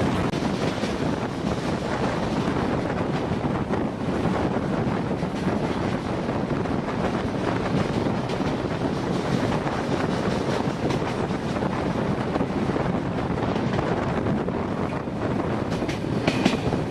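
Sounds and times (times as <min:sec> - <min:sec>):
passenger train rushing rumble: 0:00.0 - 0:16.9
wind buffeting the microphone: 0:00.0 - 0:16.9.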